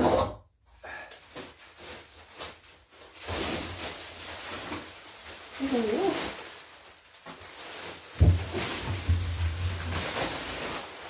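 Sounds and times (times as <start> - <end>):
plastic wrap crinkling: 0.9 - 11.0.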